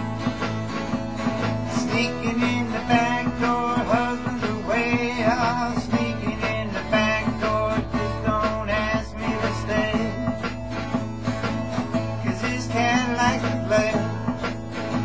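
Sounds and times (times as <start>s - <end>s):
acoustic guitar strumming blues: 0.0s - 15.0s
backing beat: 0.0s - 15.0s.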